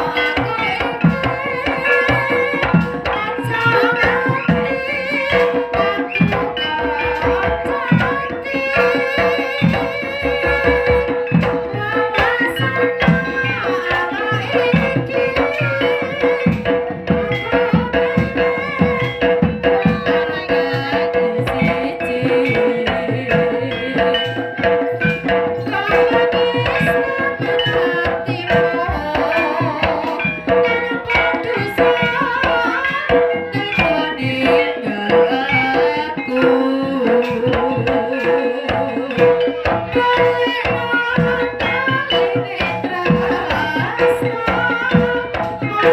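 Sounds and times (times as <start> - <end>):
fast hand drumming: 0.0 - 45.9
pitched percussion instruments: 0.0 - 45.9.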